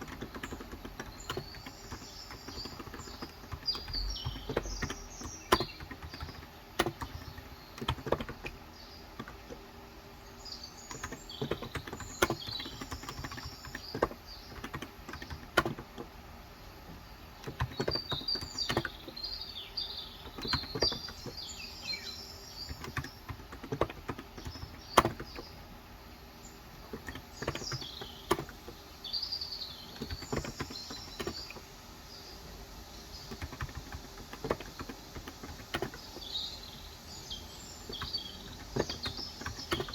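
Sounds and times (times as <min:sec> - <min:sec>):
keyboard key presses: 0:00.0 - 0:09.6, 0:10.9 - 0:16.2, 0:16.9 - 0:19.3, 0:20.2 - 0:25.6, 0:26.8 - 0:28.8, 0:29.8 - 0:31.6, 0:33.2 - 0:36.8, 0:37.4 - 0:39.9
small birds chirping: 0:00.0 - 0:39.9.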